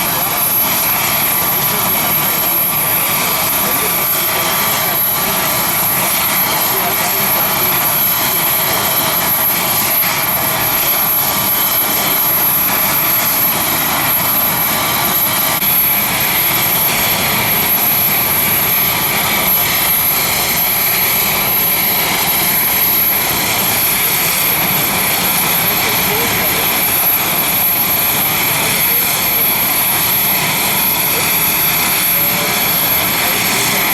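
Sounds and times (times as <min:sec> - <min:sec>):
helicopter engines and rotor: 0:00.0 - 0:33.9.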